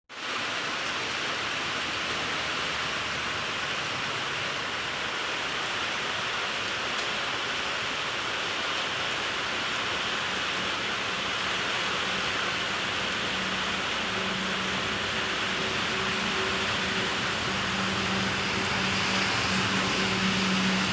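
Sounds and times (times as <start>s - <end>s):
heavy rain pouring: 0.1s - 20.9s.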